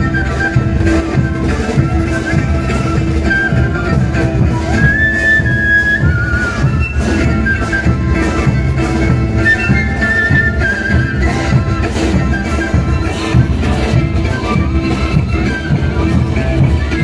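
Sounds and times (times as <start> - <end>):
bass drums: 0.0 - 17.0
brass band playing: 0.0 - 17.0.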